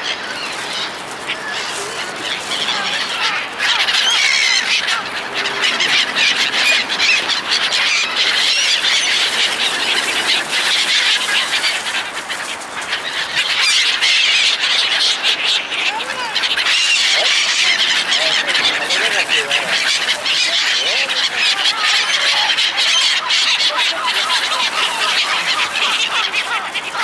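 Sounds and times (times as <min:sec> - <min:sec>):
seagulls squawking: 0:00.0 - 0:27.0.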